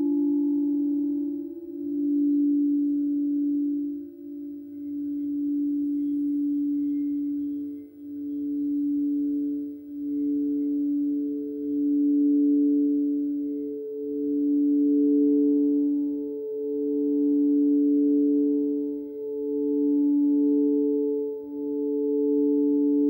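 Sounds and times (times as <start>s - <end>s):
large singing bowl low tone: 0.0s - 23.0s
small singing bowl higher tone: 0.0s - 23.0s.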